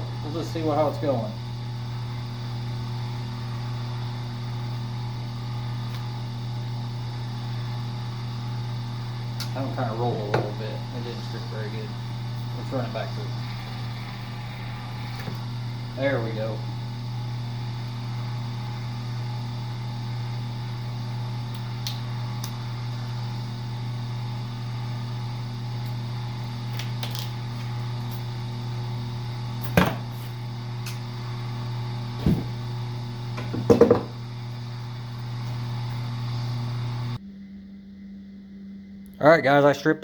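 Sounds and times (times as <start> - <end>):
machine motor hum: 0.0 - 40.0.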